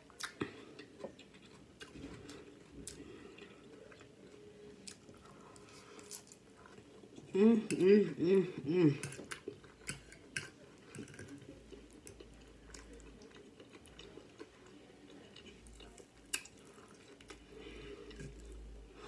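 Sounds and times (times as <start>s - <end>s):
person chewing crispy food: 0.0s - 7.4s, 9.0s - 19.0s.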